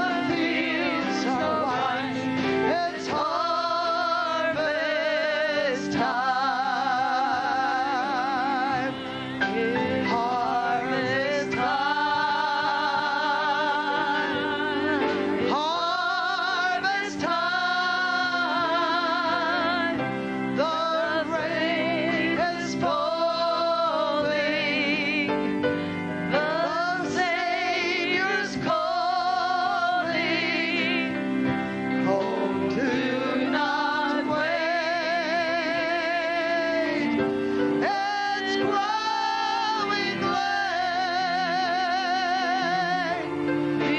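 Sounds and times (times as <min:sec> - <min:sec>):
sustained chords: 0:00.0 - 0:43.9
wordless melismatic singing: 0:00.0 - 0:43.9.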